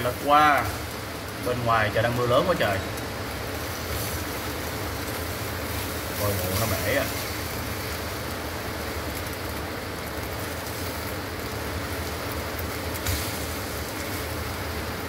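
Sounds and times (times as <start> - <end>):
eggs frying in a pan: 0.0 - 15.0
heavy rain pouring: 0.0 - 15.0.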